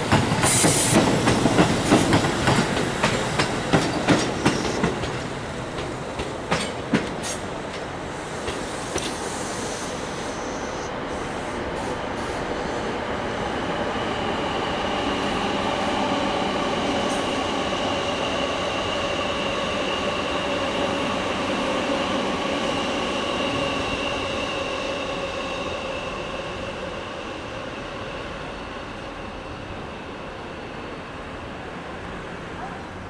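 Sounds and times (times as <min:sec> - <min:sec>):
electric train passing: 0:00.0 - 0:33.0
high train whine: 0:00.0 - 0:33.0.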